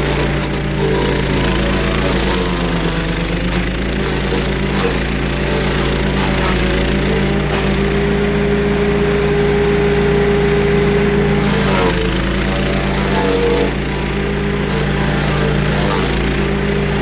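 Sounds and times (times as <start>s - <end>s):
stump grinder grinding stump: 0.0s - 17.0s.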